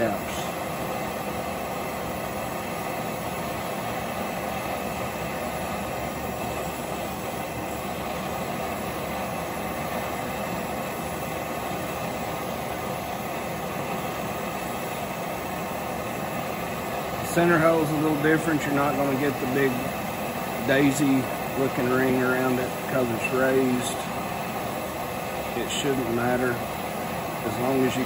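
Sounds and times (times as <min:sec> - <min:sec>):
machine humming and hissing: 0:00.0 - 0:28.0.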